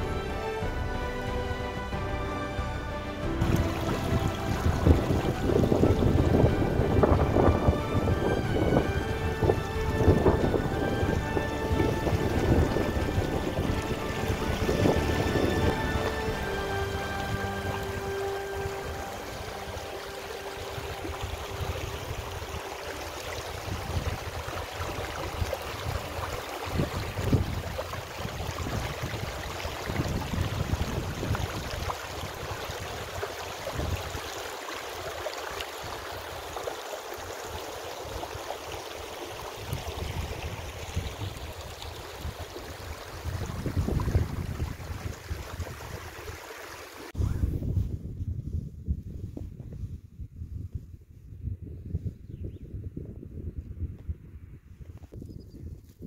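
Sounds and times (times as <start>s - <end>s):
stream rushing over stones: 0.0s - 47.2s
wind rumbling on microphone: 3.2s - 46.4s, 47.1s - 56.0s.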